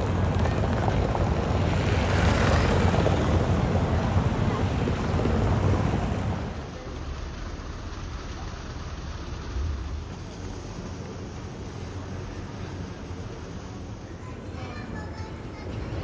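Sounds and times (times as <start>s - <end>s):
wind buffeting microphone: 0.0s - 13.9s
low rumble of traffic: 0.0s - 16.0s.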